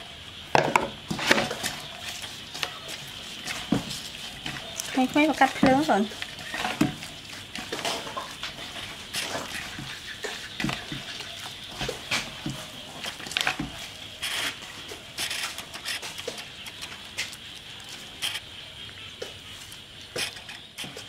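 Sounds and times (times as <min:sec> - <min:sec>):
hands squeezing grated coconut: 0:01.5 - 0:18.5.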